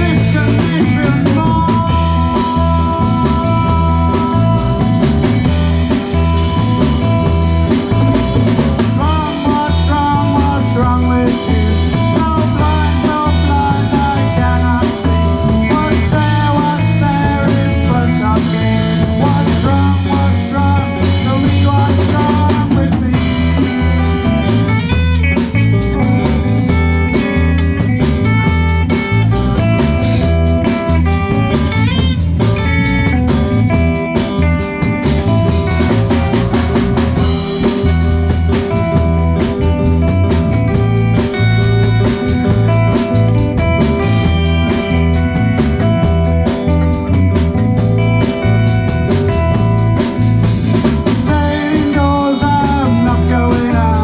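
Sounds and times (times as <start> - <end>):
bass guitar: 0.0 - 54.0
drum kit beat: 0.0 - 54.0
lead electric guitar bending notes: 0.0 - 54.0.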